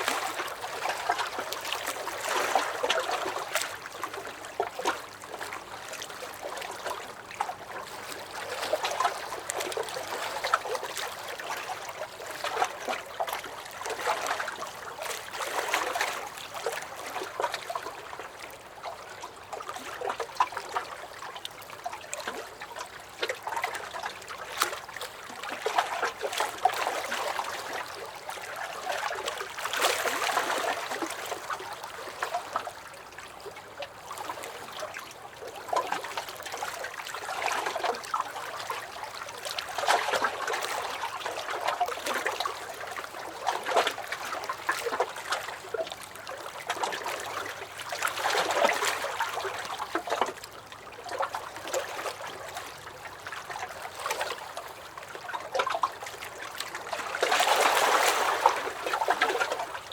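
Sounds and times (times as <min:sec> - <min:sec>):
waves lapping against a dock: 0:00.0 - 0:59.9.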